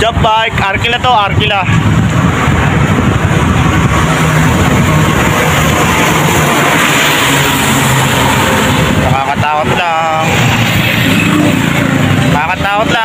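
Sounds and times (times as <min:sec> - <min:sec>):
road traffic engines: 0:00.0 - 0:13.0.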